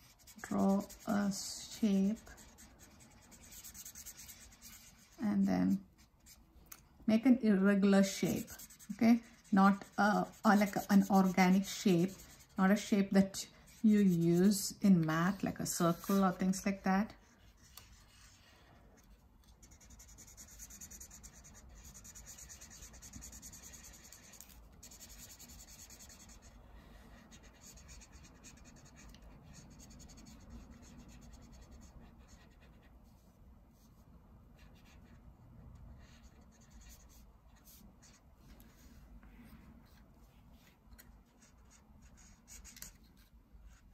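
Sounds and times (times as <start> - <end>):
marker scratching on paper: 0.0 - 6.4, 7.9 - 18.5, 19.6 - 32.9, 34.6 - 35.2, 36.0 - 38.9, 40.6 - 43.9.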